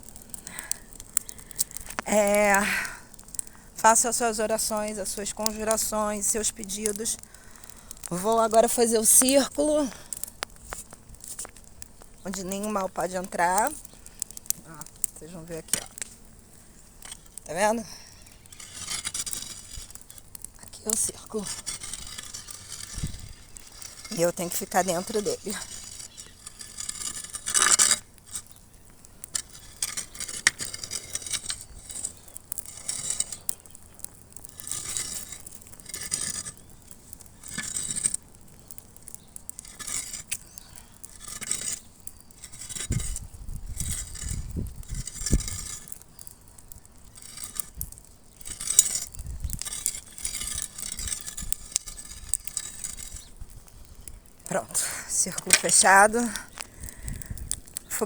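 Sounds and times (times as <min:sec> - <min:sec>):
scraping on ground: 0:00.0 - 0:58.0.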